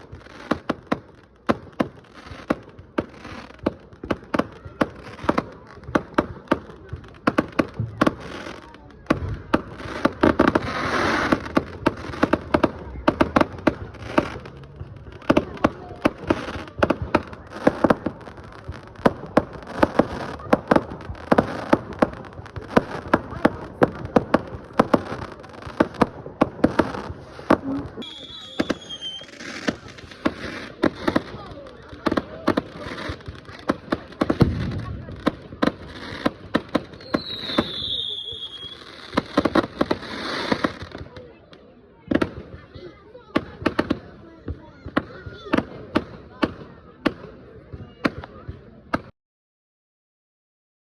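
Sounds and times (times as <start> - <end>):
fireworks cracking and banging: 0.0 - 49.1.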